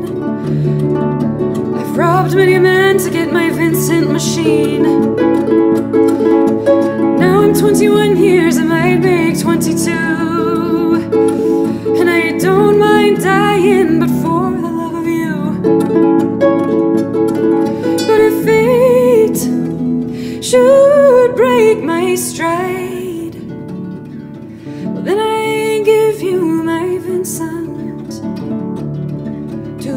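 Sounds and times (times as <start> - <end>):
harp playing: 0.0 - 29.9.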